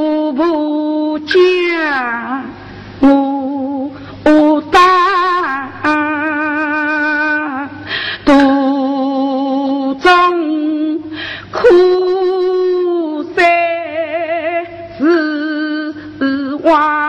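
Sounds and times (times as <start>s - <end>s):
woman singing opera with vibrato: 0.0s - 17.0s.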